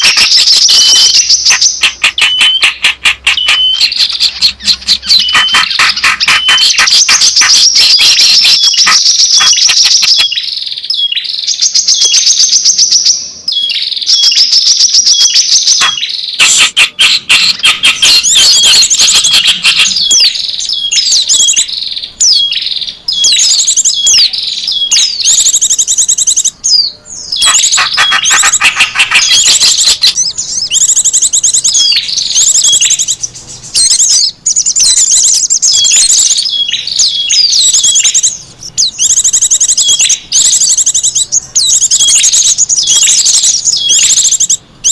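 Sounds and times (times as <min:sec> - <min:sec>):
small songbirds chirping and trilling: 0:00.0 - 0:44.9.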